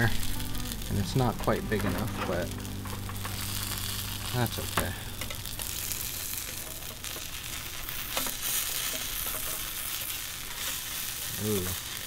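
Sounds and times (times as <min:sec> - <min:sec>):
patties sizzling in pan: 0:00.0 - 0:12.0.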